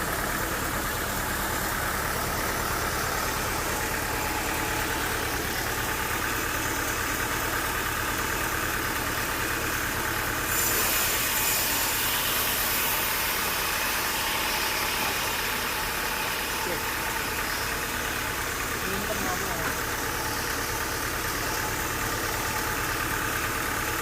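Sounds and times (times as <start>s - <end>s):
sawmill machinery humming: 0.0s - 24.0s.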